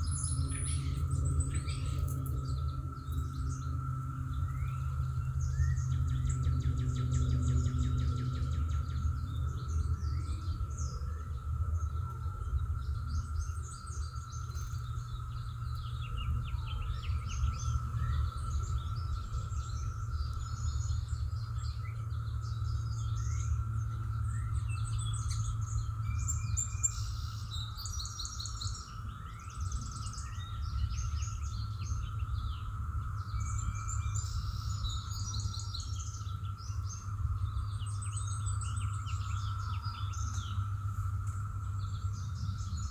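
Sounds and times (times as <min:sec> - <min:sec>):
low rumble: 0:00.0 - 0:42.9
songbirds chirping and singing: 0:00.0 - 0:42.9.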